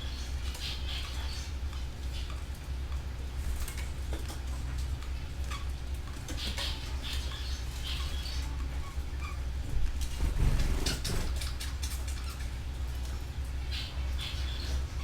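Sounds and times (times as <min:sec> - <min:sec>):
canaries chirping: 0:00.0 - 0:09.6, 0:10.2 - 0:15.0.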